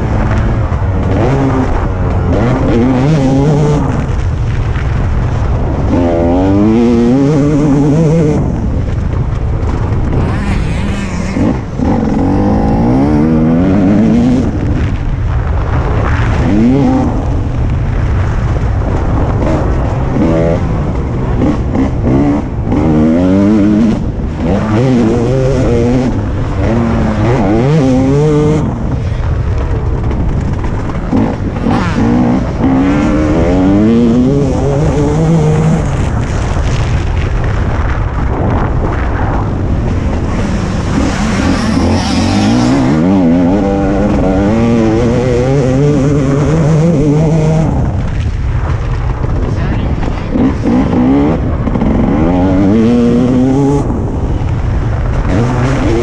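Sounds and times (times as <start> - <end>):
motocross bike engine revving: 0.0 - 4.5, 5.3 - 15.0, 16.0 - 49.4, 50.0 - 56.0.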